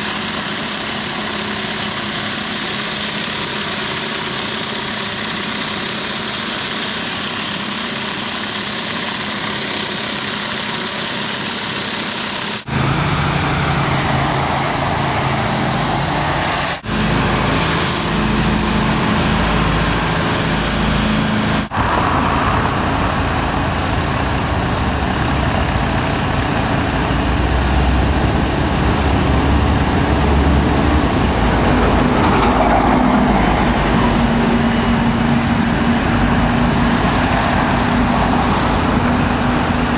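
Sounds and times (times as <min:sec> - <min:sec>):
engine hum: 0:00.0 - 0:39.9
high-pressure water jet hissing: 0:00.0 - 0:39.9.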